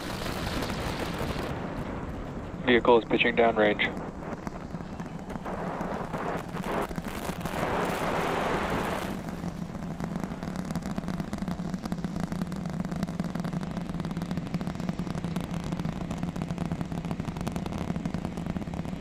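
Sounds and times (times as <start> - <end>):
low hum: 0.0 - 19.0
rocket engines rumbling and crackling: 0.0 - 19.0.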